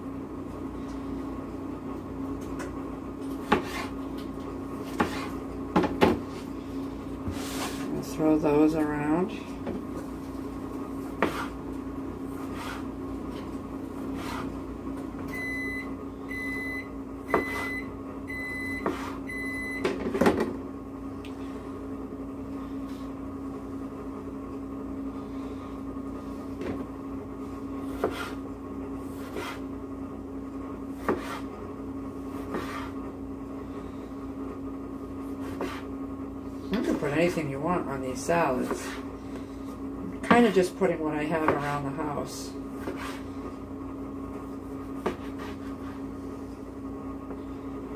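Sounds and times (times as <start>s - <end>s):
kitchen appliance humming: 0.0s - 47.9s.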